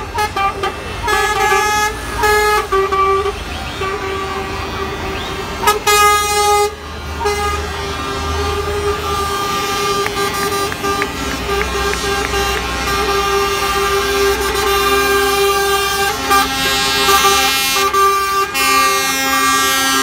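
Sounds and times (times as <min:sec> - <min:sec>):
diesel engines rumbling: 0:00.0 - 0:20.0
loud air horn blast: 0:00.0 - 0:20.0
truck horns sounding: 0:00.0 - 0:20.0.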